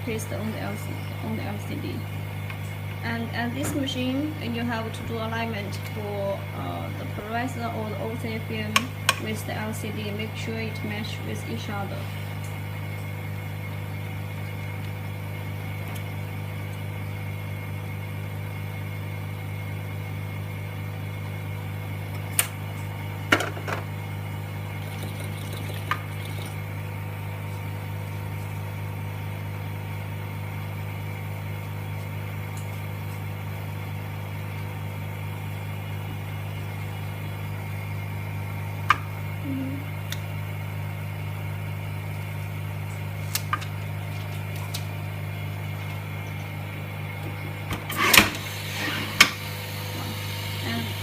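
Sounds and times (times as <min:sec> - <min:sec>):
vacuum pump motor humming: 0:00.0 - 0:51.0.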